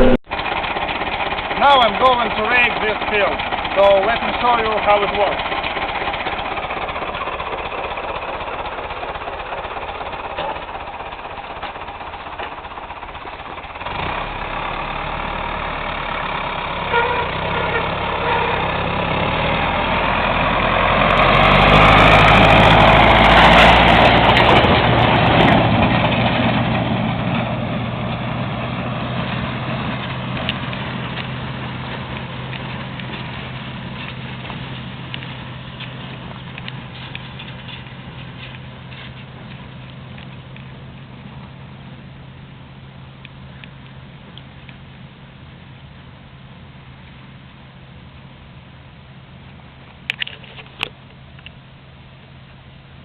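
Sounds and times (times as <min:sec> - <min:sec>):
swather engine running: 0:00.0 - 0:51.5.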